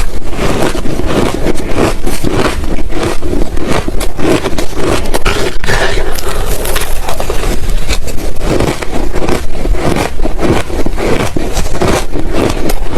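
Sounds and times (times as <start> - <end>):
ice being chewed: 0.0 - 12.9.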